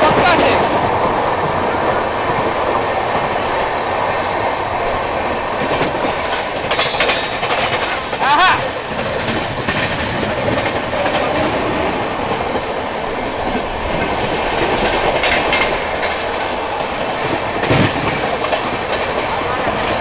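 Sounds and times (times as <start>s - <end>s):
train wheels clattering on track: 0.0s - 20.0s.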